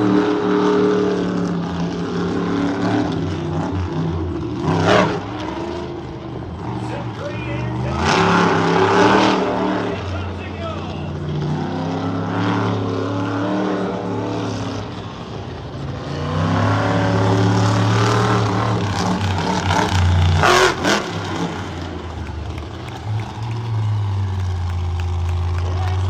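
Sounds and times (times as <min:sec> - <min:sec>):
truck engine under heavy throttle: 0:00.0 - 0:26.0.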